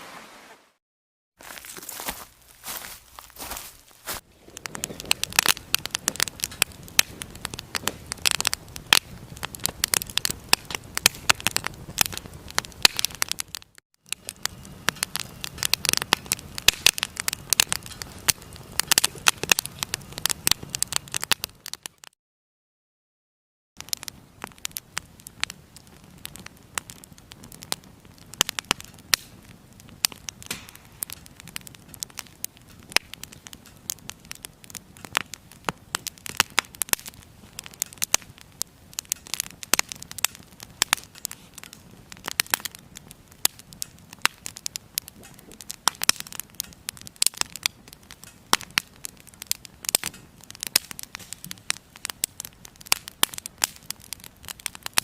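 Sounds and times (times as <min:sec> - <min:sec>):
firewood crackling and popping: 0:01.4 - 0:22.2, 0:23.8 - 0:55.0.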